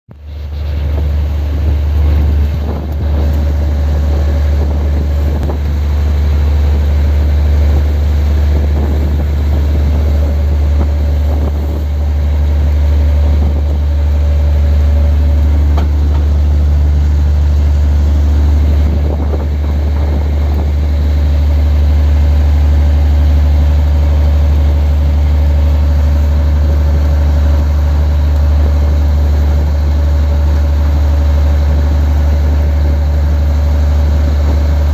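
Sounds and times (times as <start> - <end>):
boat engine drone: 0.1 - 34.9
high steady hum: 0.1 - 34.9.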